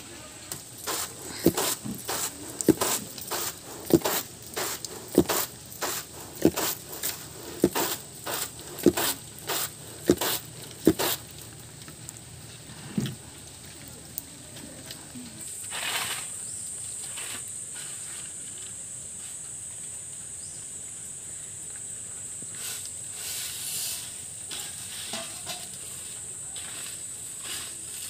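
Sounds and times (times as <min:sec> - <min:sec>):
grains rustling in a bamboo tray: 0:00.0 - 0:20.0, 0:22.3 - 0:28.0.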